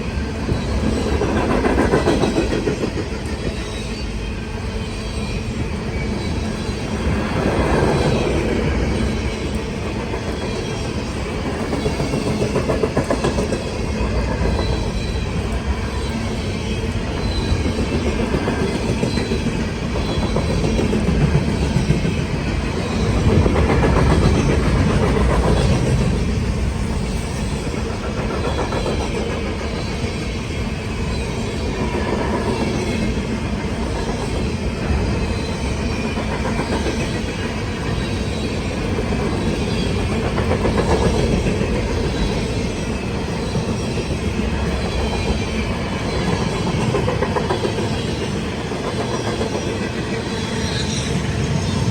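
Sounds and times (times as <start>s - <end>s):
freight train cars rumbling: 0.0s - 51.9s.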